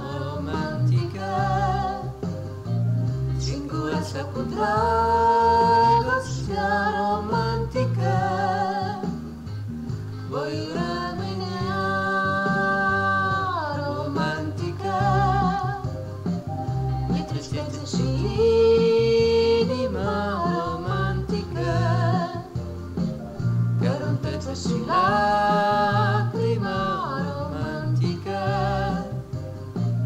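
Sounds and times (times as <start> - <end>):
person singing with vibrato: 0.0 - 2.3, 3.4 - 9.2, 10.3 - 16.1, 16.7 - 22.6, 23.8 - 29.4
karaoke backing track: 0.0 - 30.0.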